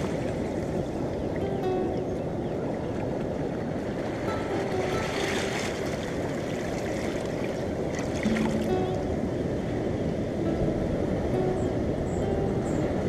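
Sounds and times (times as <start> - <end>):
ocean surf on rocks: 0.0 - 13.0.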